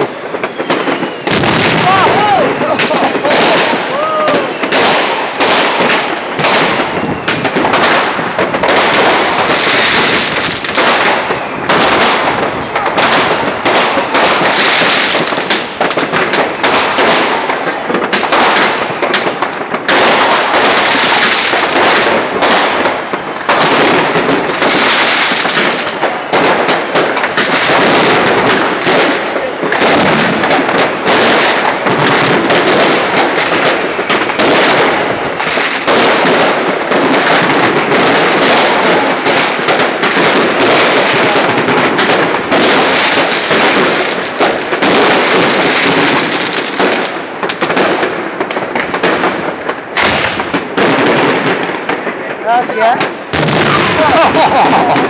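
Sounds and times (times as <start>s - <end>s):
fireworks and firecrackers barrage: 0.0s - 55.0s.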